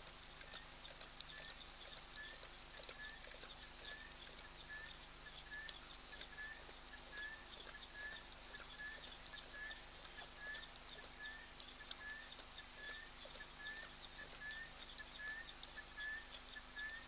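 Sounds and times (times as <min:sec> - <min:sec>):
faint ticking: 0:00.0 - 0:17.0
steady low hiss: 0:00.0 - 0:17.0.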